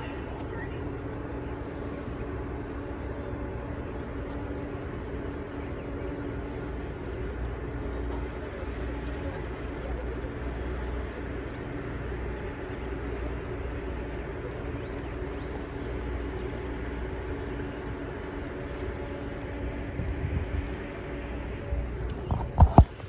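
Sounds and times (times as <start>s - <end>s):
mechanical drone with low rumble: 0.0s - 23.0s.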